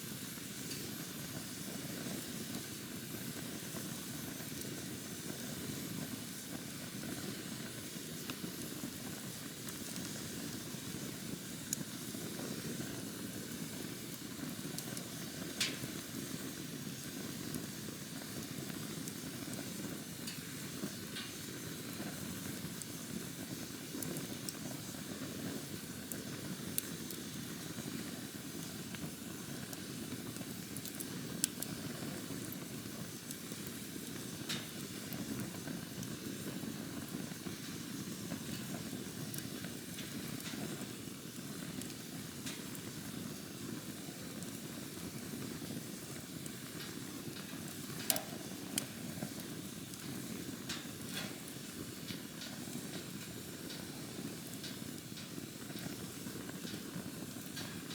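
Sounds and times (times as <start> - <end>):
campfire flames rushing: 0.0 - 57.9
fire crackles and pops: 0.0 - 57.9.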